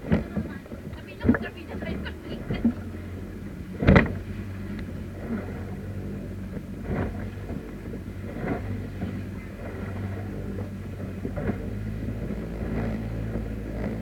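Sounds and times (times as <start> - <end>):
motorboat engine running: 0.0 - 14.0
wind on microphone: 0.0 - 14.0.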